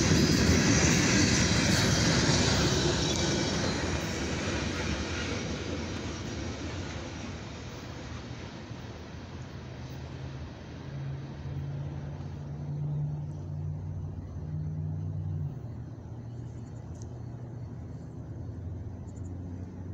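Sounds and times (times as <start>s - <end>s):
low engine drone: 0.0s - 19.9s.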